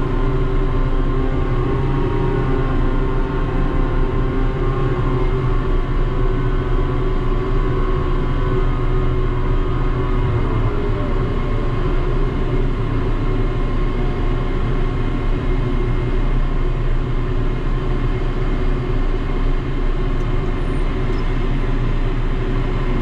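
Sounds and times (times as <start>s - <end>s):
crane machinery low hum: 0.0s - 23.0s
faint whining tones: 0.0s - 23.0s.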